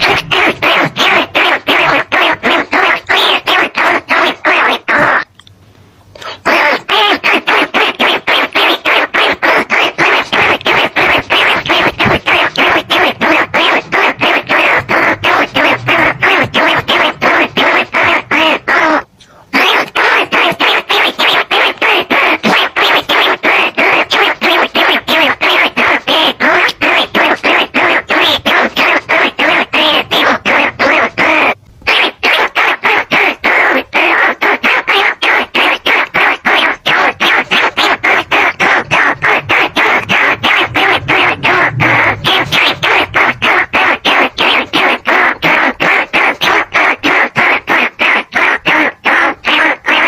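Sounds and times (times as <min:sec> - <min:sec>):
rapid rat squeaks: 0:00.0 - 0:05.3, 0:06.5 - 0:50.0.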